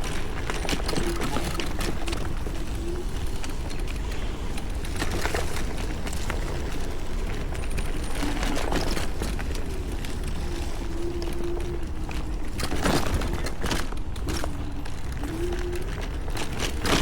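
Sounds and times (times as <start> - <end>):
scooter knocks and rattles: 0.0 - 10.3, 11.3 - 17.0
tyres crunching over dirt: 0.0 - 17.0
wind rumble on microphone: 0.0 - 17.0.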